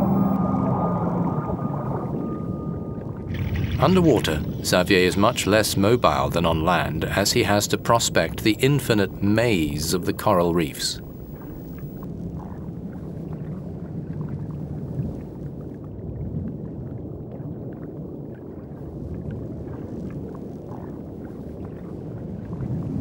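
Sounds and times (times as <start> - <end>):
underwater low rumble: 0.0 - 23.0.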